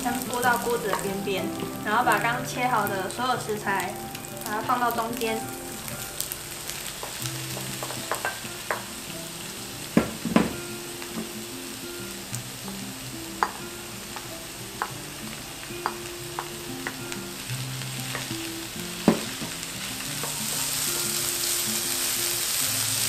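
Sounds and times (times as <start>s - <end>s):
vegetables sizzling in a wok: 0.0s - 23.0s.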